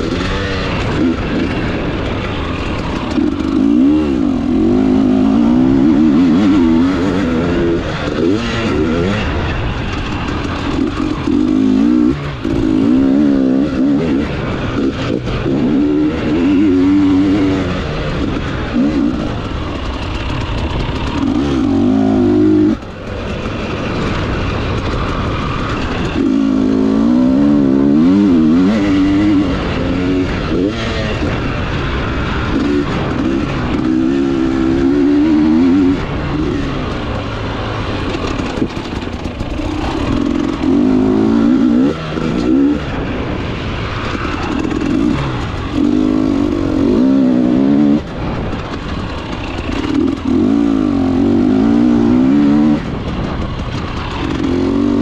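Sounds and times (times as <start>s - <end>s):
two-stroke engine revving: 0.0s - 55.0s.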